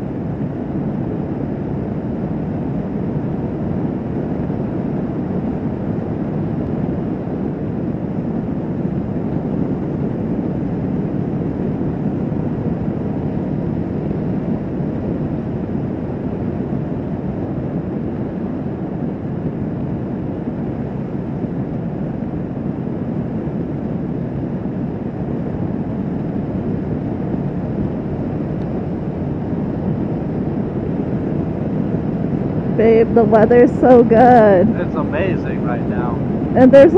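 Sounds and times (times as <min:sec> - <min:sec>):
wind and road noise: 0:00.0 - 0:36.9.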